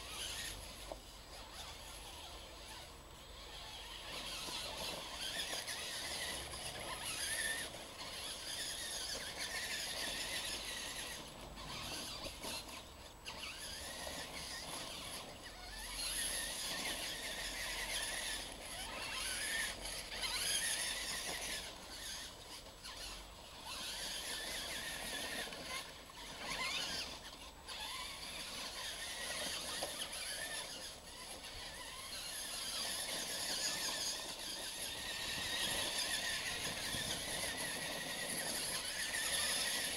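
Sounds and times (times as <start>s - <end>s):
toy truck electric motors whining: 0.0s - 39.9s.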